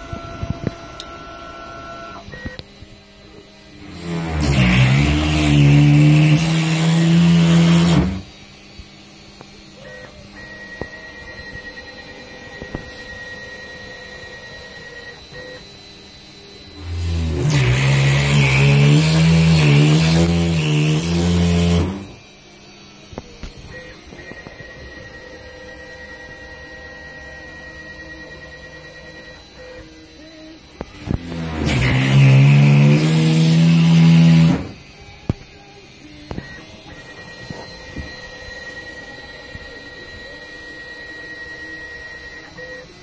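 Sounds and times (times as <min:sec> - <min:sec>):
machine hum: 0:00.0 - 0:43.0
router motor whine: 0:00.0 - 0:43.0.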